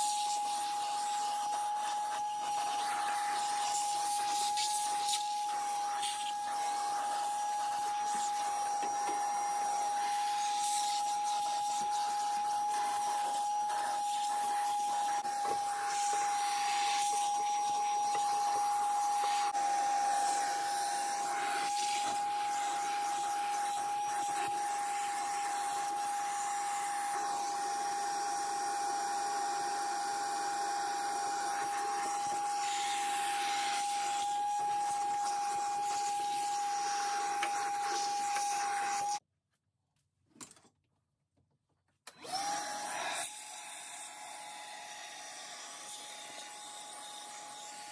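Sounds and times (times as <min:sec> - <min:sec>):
vacuum cleaner running: 0:00.0 - 0:39.2, 0:42.1 - 0:47.9.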